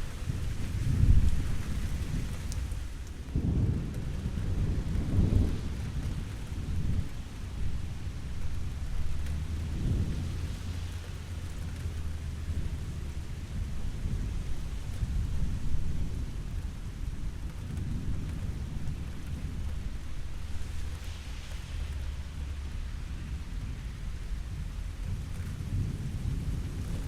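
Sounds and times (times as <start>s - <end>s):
steady rain falling: 0.0s - 27.0s
distant thunder rumble: 3.2s - 27.0s.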